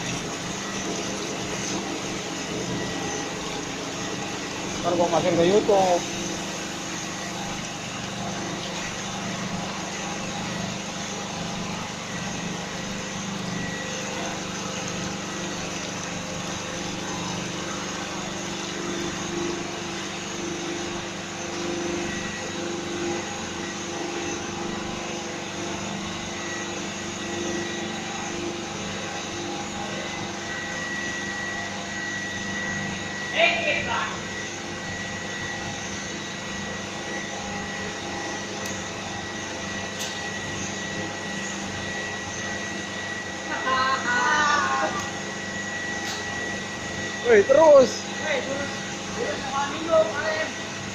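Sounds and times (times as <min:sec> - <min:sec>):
pipe-making machine humming: 0:00.0 - 0:50.9.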